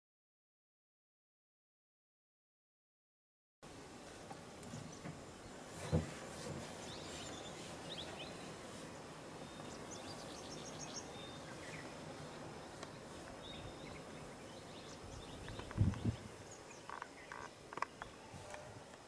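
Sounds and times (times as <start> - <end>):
outdoor background noise: 3.6 - 19.0.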